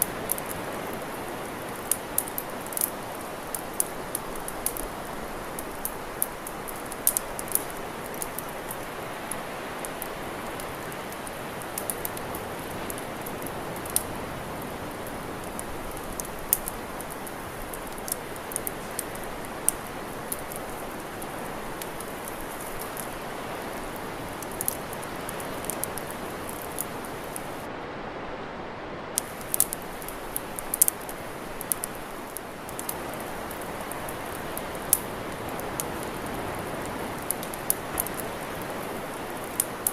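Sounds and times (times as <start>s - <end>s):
campfire crackling: 0.0s - 27.7s, 29.2s - 39.9s
steady hiss: 0.0s - 27.7s, 29.2s - 39.9s.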